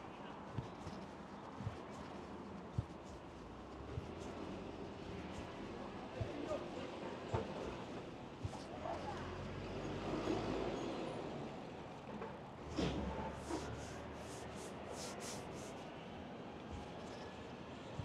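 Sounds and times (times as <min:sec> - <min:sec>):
traffic rumble: 0:00.0 - 0:15.9.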